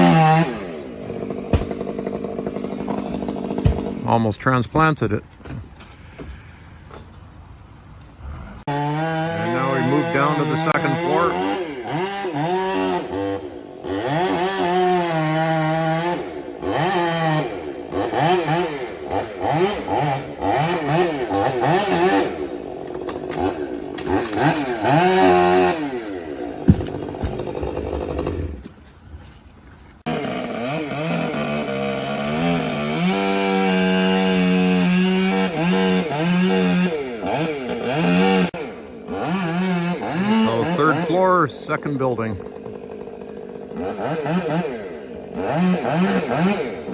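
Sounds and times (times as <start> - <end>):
chainsaw revving and cutting: 0.0 - 4.4, 8.6 - 28.7, 30.0 - 46.9.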